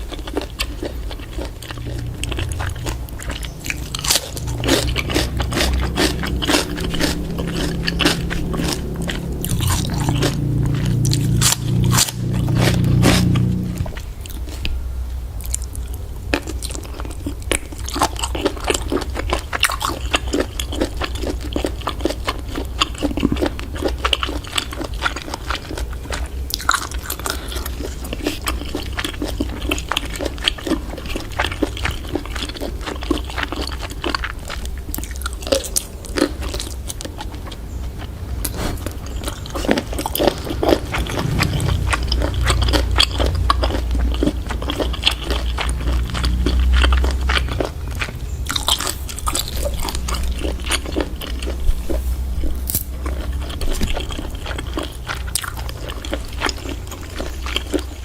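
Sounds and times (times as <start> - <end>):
wet chewing crunches: 0.0 - 14.8, 15.4 - 58.0
steady low hum: 0.0 - 58.0.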